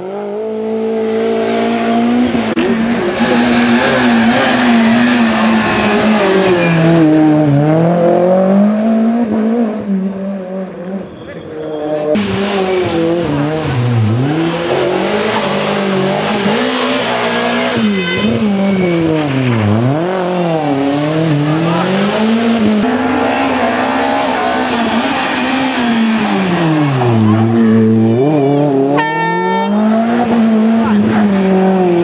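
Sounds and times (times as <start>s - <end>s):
rally car engine at full throttle: 0.0s - 32.0s.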